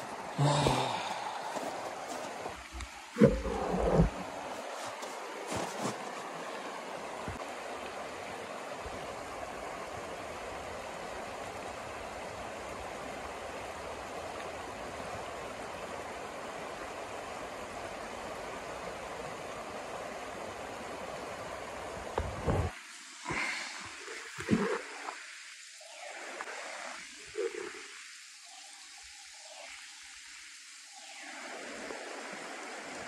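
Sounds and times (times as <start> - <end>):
river rushing over stones: 0.0 - 33.0.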